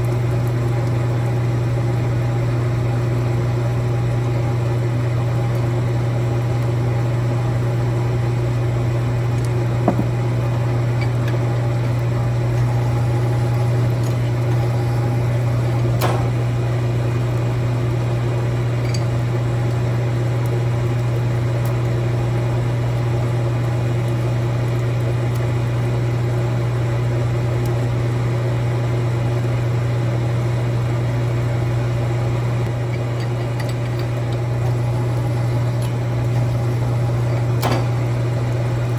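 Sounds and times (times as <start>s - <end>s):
electric machine hum: 0.0s - 38.9s.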